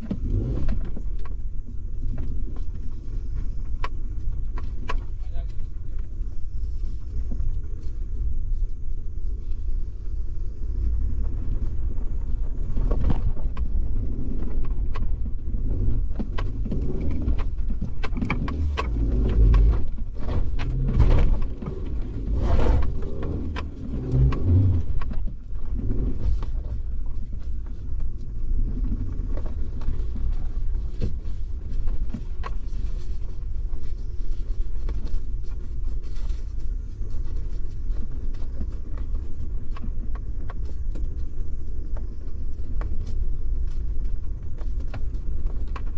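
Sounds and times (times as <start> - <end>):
engine and road rumble: 0.0 - 45.9.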